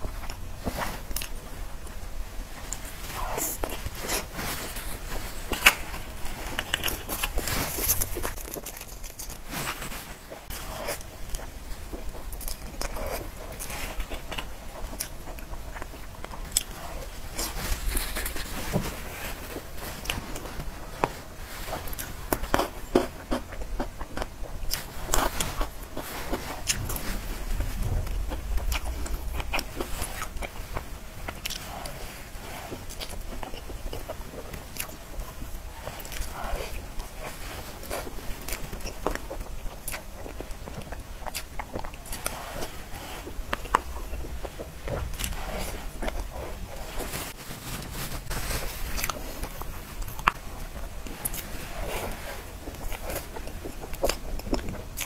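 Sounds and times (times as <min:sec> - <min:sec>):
person chewing pastry: 0:00.0 - 0:55.0.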